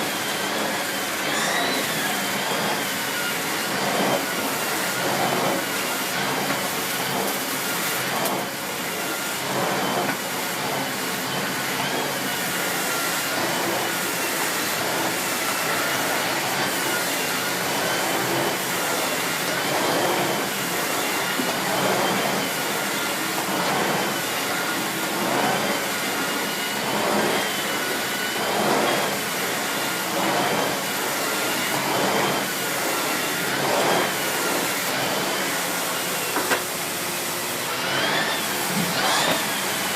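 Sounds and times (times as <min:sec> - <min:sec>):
vacuum cleaner whine: 0:00.0 - 0:39.9
vacuum floorhead surges: 0:00.0 - 0:39.9.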